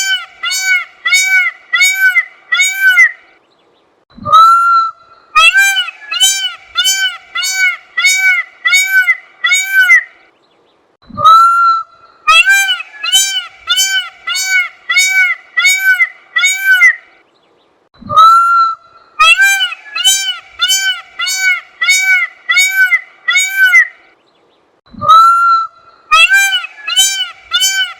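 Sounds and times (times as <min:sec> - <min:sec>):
peacock calling: 0:00.0 - 0:03.4, 0:04.2 - 0:10.3, 0:11.2 - 0:17.2, 0:18.1 - 0:24.2, 0:25.0 - 0:27.9.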